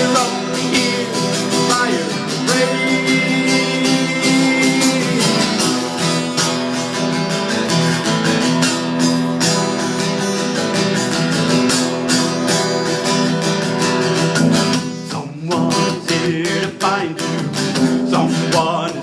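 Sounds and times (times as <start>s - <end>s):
guitar strumming chords: 0.0s - 19.0s.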